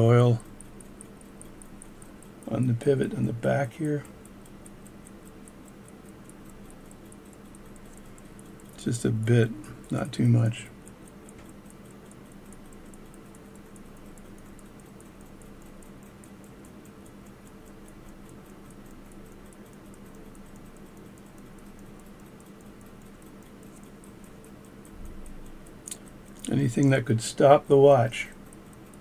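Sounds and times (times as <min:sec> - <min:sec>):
pocket watch ticking: 0:00.0 - 0:29.0.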